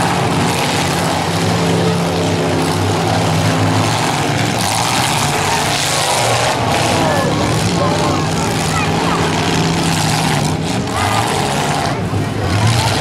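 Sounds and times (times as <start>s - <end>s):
car engines running loudly: 0.0s - 13.0s.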